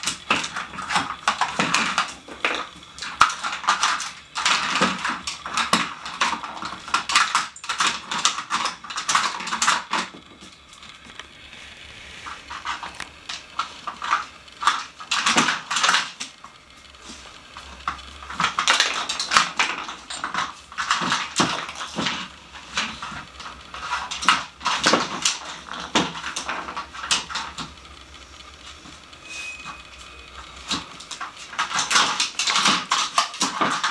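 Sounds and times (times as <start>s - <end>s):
plastic pieces clattering on wood: 0.0s - 11.3s, 12.3s - 16.6s, 17.6s - 27.8s, 30.6s - 33.9s.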